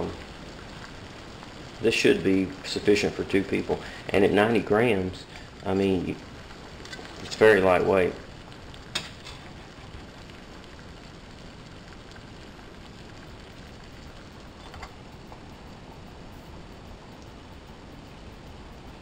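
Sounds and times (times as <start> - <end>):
alcohol stove hissing: 0.0 - 19.0.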